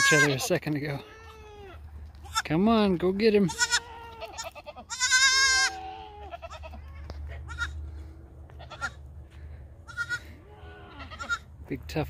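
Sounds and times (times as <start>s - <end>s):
goat kid bleating: 0.0s - 2.7s, 3.3s - 9.0s, 9.8s - 11.5s.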